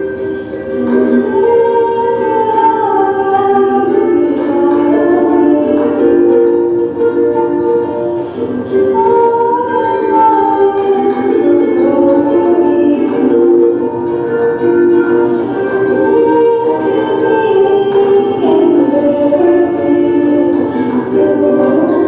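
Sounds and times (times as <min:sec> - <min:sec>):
ukulele: 0:00.0 - 0:22.0
woman singing: 0:00.0 - 0:22.0.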